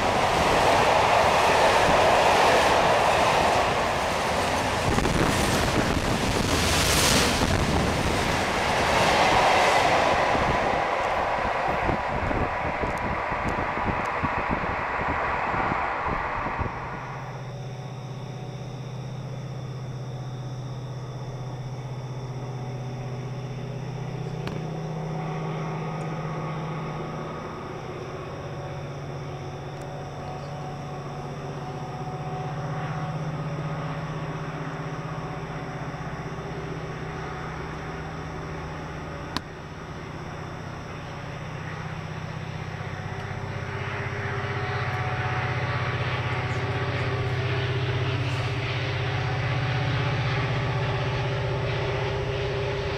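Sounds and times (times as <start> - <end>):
train approaching drone: 0.0 - 52.9.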